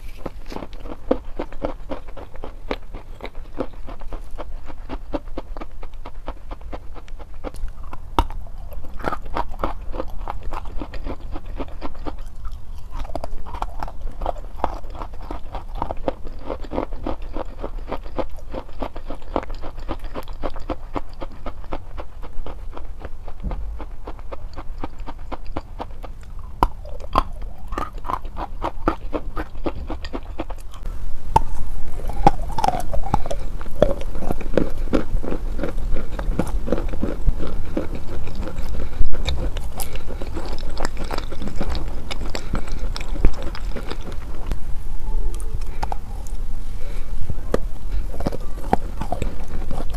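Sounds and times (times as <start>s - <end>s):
chalk crunching while chewed: 0.0s - 44.6s, 45.3s - 49.9s.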